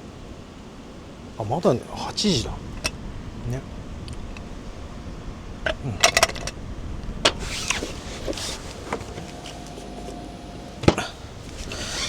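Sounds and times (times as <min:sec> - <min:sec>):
low background rumble: 0:00.0 - 0:12.0
soft hiss: 0:00.0 - 0:12.0.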